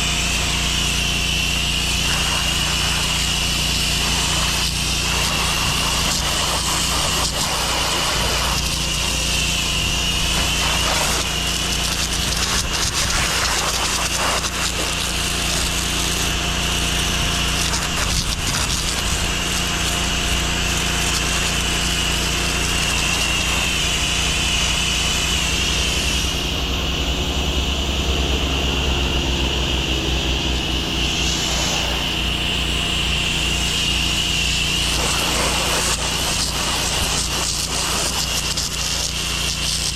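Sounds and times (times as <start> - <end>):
high-pressure water spray hissing: 0.0 - 39.9
pressure washer engine hum: 0.0 - 39.9.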